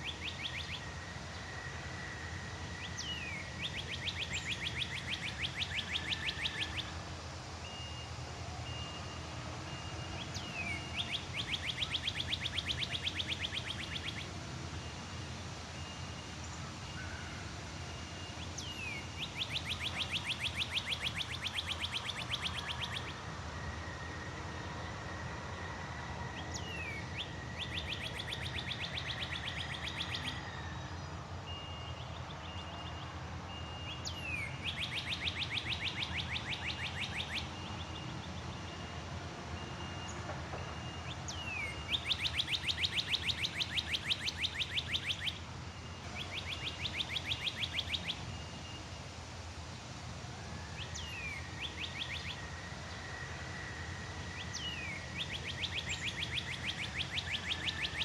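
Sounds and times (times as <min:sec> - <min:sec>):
bird singing trills: 0:00.0 - 0:15.2, 0:15.8 - 0:23.8, 0:26.3 - 0:39.0, 0:39.6 - 0:49.0, 0:50.7 - 0:58.0.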